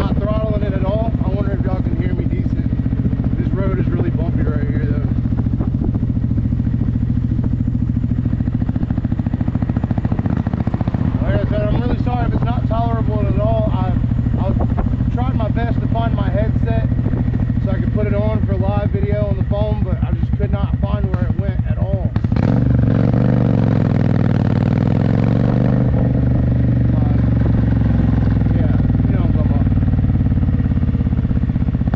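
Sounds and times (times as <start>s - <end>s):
motorcycle engine cruising: 0.0s - 31.9s.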